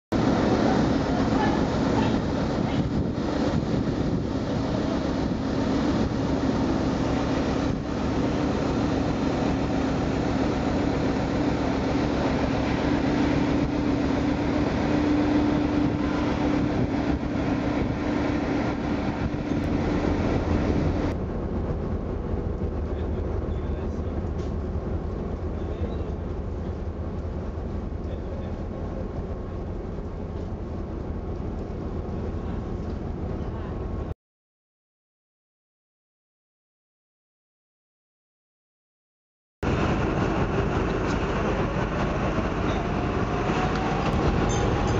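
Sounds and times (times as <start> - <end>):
ferry engines droning: 0.1 - 34.1, 39.6 - 44.9.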